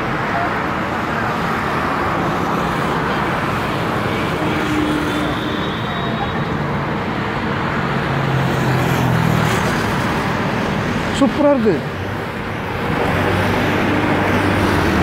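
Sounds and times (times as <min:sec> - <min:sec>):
busy road traffic: 0:00.0 - 0:15.0.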